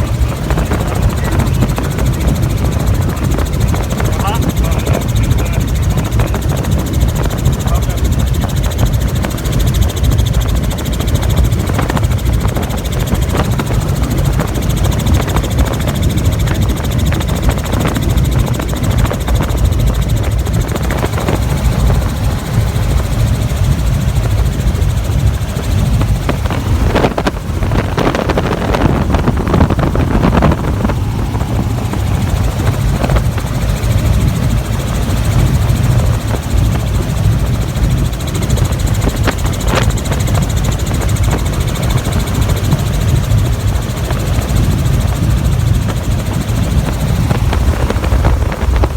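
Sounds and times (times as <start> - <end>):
helicopter rotor and engine rumble: 0.0 - 48.9.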